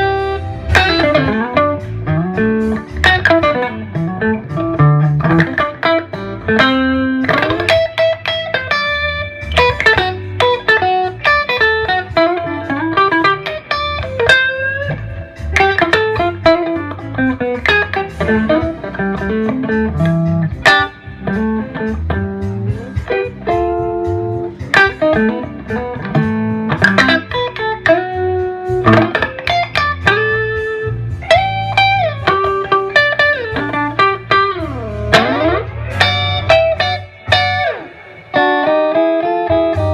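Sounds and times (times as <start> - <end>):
electric guitar lead with bends: 0.0 - 39.9
steady bass part: 0.0 - 39.9.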